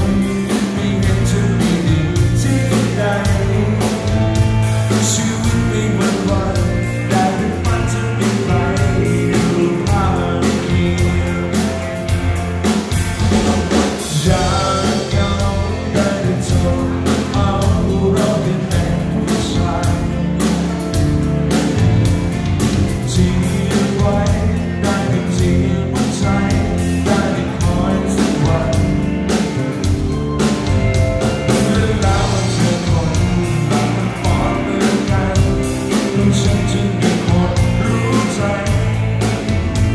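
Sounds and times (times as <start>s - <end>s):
man singing lead: 0.0s - 21.0s, 22.6s - 39.9s
bass guitar: 0.0s - 39.9s
drum kit: 0.0s - 39.9s
electric guitars: 0.0s - 39.9s.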